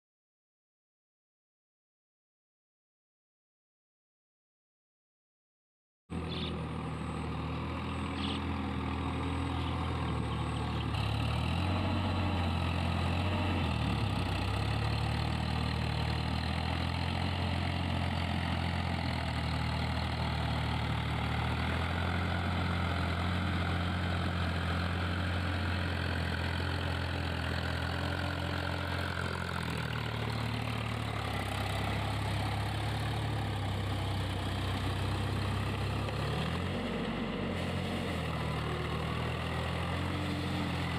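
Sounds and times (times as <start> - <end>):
tractor diesel engine under load: 6.1 - 40.9.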